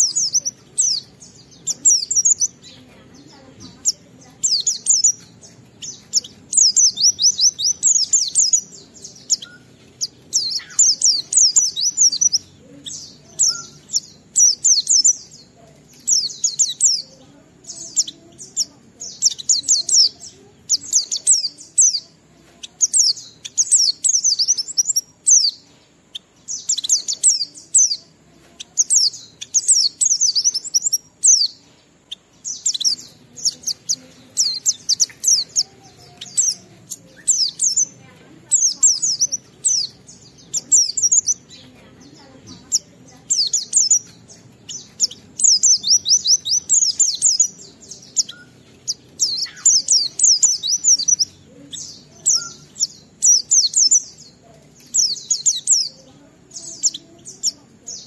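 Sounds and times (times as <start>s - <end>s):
bird singing high chirps: 0.0s - 58.0s.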